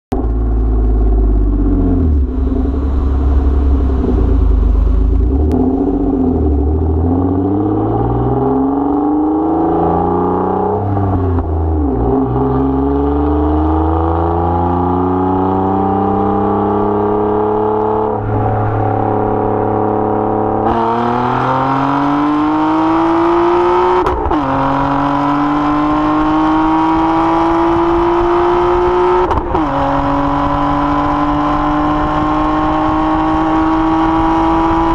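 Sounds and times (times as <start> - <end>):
car exhaust at full throttle: 0.1 - 34.9.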